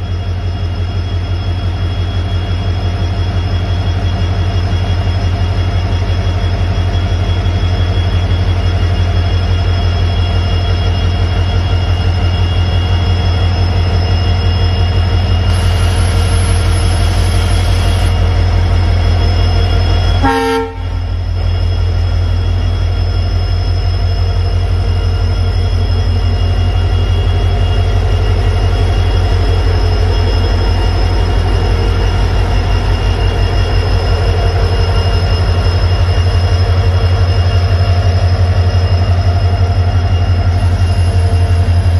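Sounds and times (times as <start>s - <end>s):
diesel locomotive engine throbbing: 0.0s - 41.9s.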